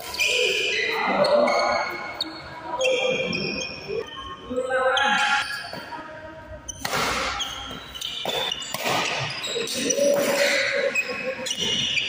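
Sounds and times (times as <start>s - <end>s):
players calling out in echoing hall: 0.0s - 12.0s.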